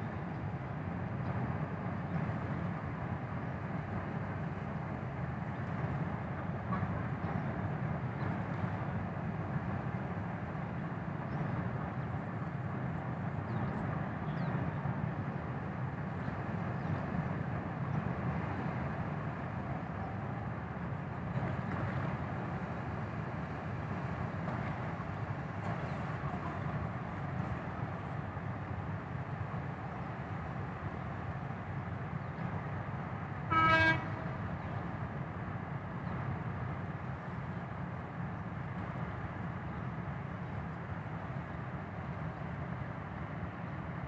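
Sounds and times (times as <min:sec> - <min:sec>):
ship engines rumbling: 0:00.2 - 0:44.0.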